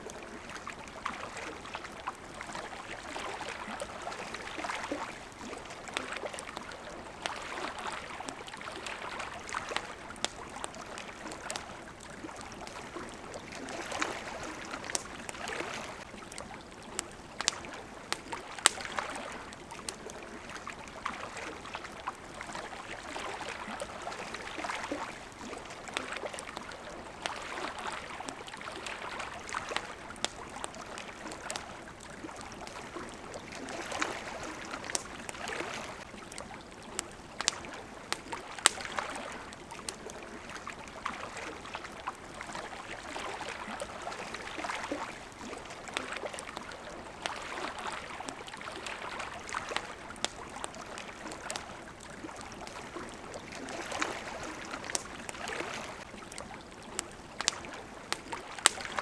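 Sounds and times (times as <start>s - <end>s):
campfire crackling: 0.0s - 59.0s
small waves lapping: 0.0s - 59.0s.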